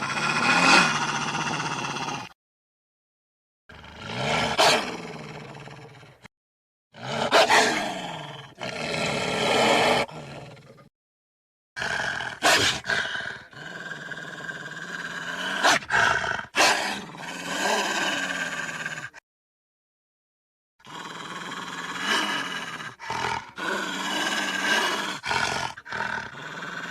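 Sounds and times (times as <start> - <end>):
wolf growls and snarls: 0.0 - 2.4, 3.7 - 6.3, 6.9 - 10.9, 11.8 - 19.2, 20.8 - 26.9.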